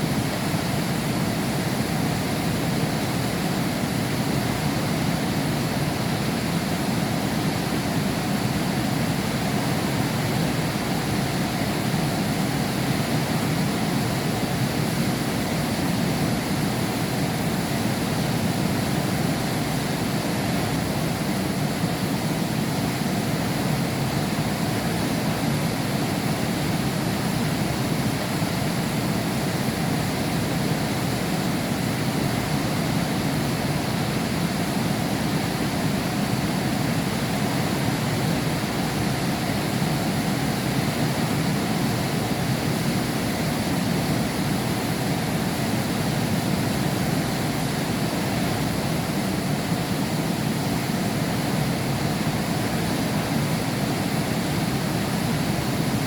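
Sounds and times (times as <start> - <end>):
heavy rain behind a window: 0.0 - 56.0.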